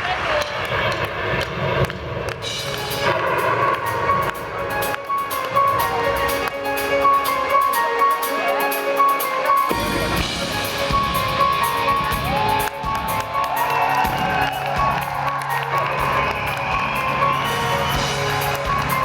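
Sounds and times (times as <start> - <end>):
live rock band playing: 2.4 - 19.0
crowd cheering and whooping: 3.0 - 9.0, 9.7 - 19.0.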